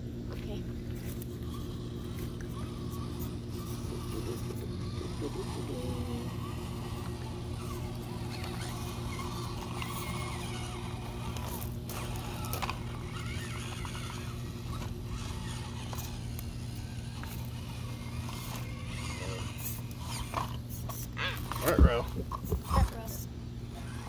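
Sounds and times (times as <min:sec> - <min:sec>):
small electric motors whirring: 0:00.0 - 0:24.0
steady low hum: 0:00.0 - 0:24.0.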